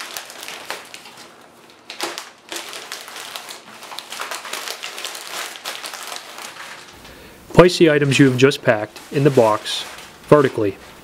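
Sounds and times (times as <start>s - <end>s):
packing paper crinkling: 0.0s - 11.0s.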